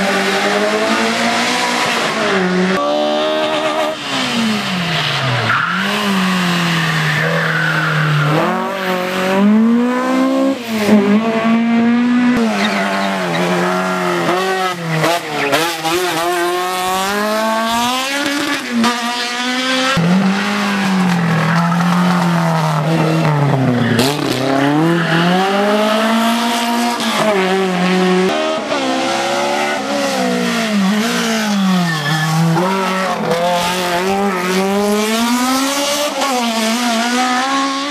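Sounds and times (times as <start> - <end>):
rally car engine revving: 0.0 - 37.9.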